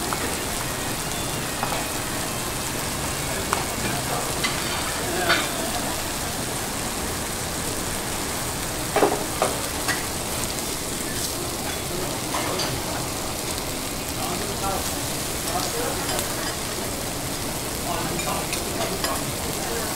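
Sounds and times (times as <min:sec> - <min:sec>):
food sizzling on a griddle: 0:00.0 - 0:19.9.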